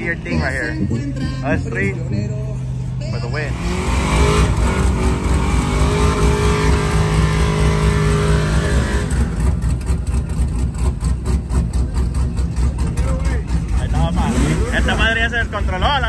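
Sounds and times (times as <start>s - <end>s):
pickup truck engine revving: 0.0s - 16.0s.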